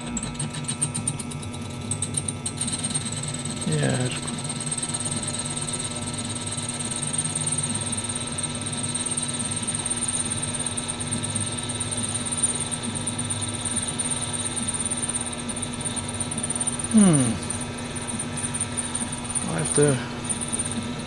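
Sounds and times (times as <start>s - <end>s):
lathe motor humming: 0.0s - 21.0s.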